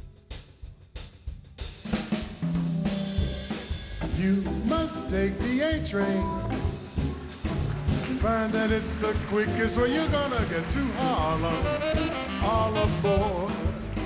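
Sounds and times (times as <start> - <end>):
drum kit hits: 0.0 - 14.0
swing jazz band playing: 1.6 - 14.0.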